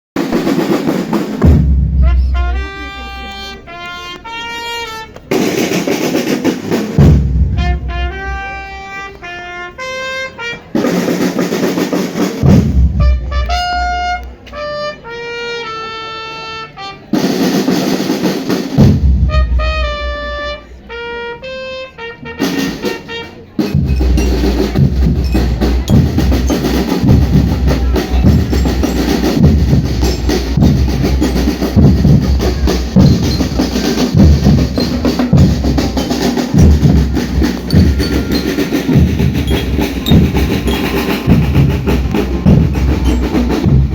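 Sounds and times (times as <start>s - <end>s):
snare and bass drums: 0.2s - 3.4s, 5.2s - 9.3s, 10.7s - 14.5s, 17.1s - 20.6s, 22.4s - 43.9s
marching band held notes: 0.2s - 43.9s.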